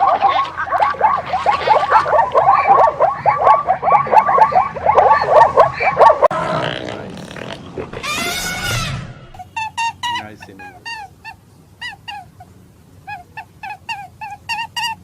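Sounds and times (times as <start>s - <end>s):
fast short animal calls: 0.0s - 12.2s
long animal call with overtones: 0.0s - 15.0s.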